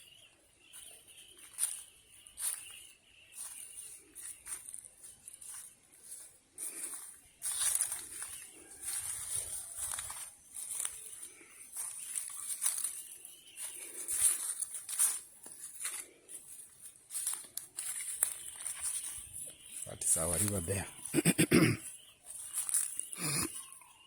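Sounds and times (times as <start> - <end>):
footsteps on outdoor path: 0.1 - 24.0.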